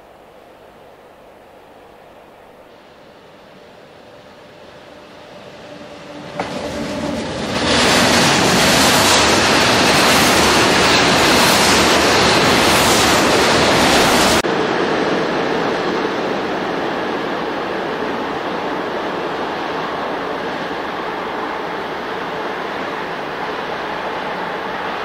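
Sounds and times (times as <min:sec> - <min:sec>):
freight train passing: 0:00.0 - 0:25.0.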